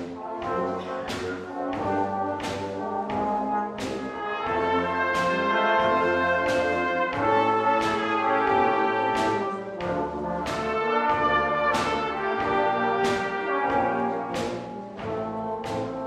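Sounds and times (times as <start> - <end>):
cornet playing slow ballad: 0.0 - 16.0.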